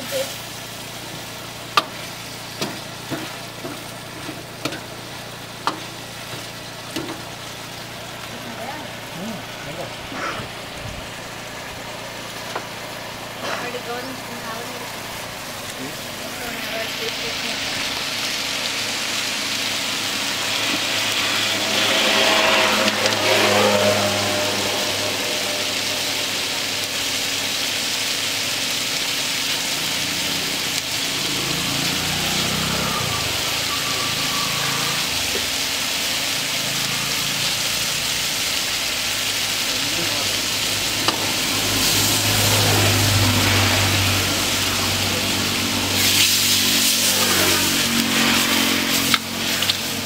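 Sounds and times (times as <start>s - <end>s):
food sizzling in a wok: 0.0s - 50.0s.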